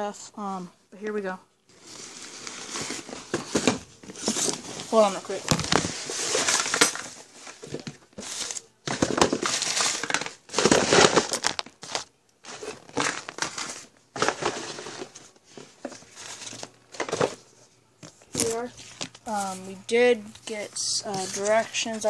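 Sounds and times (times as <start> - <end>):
crinkling and rustling: 1.7 - 22.0.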